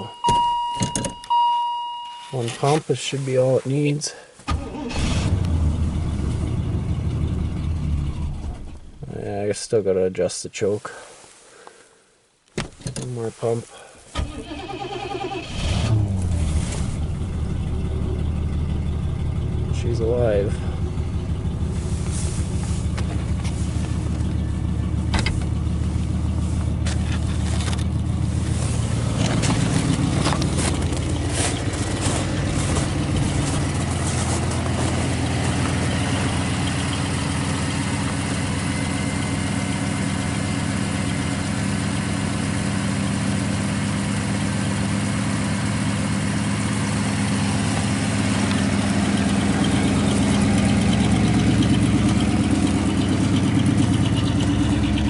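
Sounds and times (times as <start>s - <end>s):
car engine idling: 4.4s - 9.4s, 13.4s - 55.0s.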